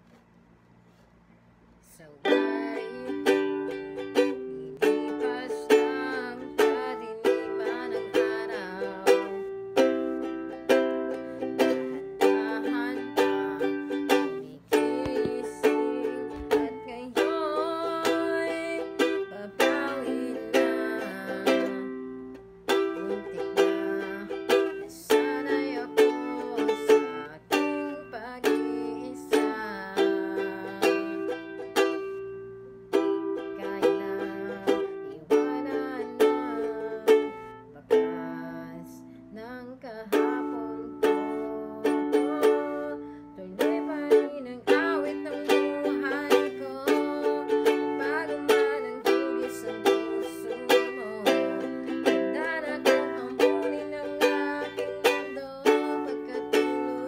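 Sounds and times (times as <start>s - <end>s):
ukulele strummed: 2.2s - 57.0s.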